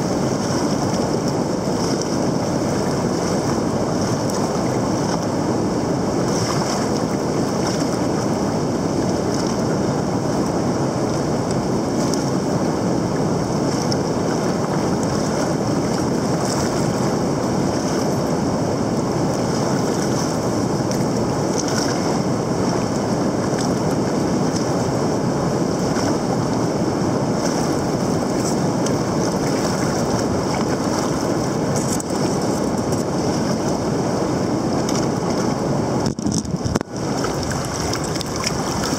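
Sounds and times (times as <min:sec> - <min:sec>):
river rapids rushing over rock: 0:00.0 - 0:38.9.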